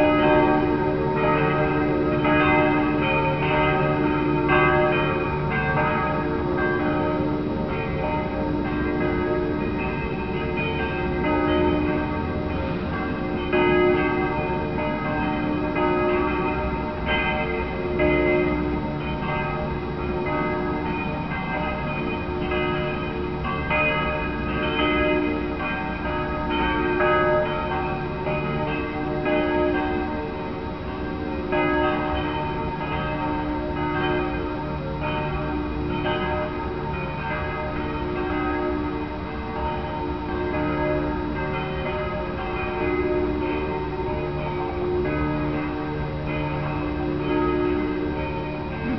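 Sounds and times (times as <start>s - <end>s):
church bells ringing: 0.0s - 48.9s.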